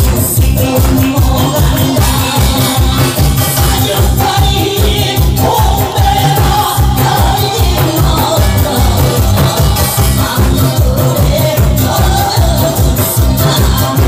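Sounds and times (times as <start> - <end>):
fast drum beat: 0.0 - 14.0.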